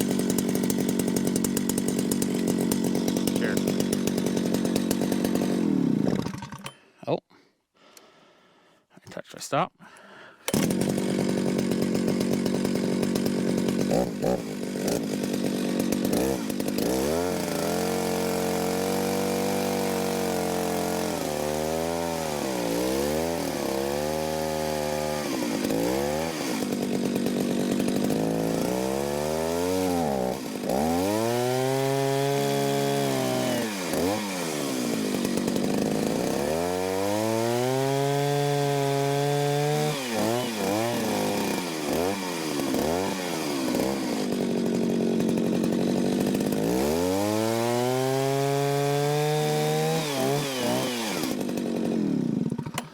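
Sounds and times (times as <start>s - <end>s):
chainsaw cutting: 0.0s - 7.0s, 10.0s - 52.9s.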